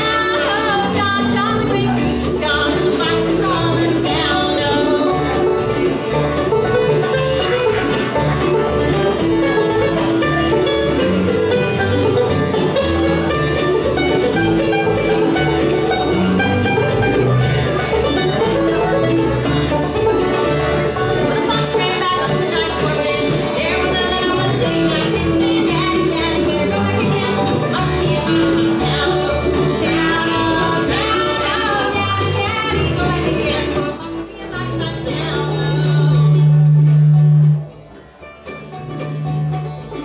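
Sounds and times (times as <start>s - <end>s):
acoustic guitar strumming: 0.0s - 40.0s
banjo picking: 0.0s - 40.0s
mandolin: 0.0s - 40.0s
upright bass notes: 0.0s - 40.0s.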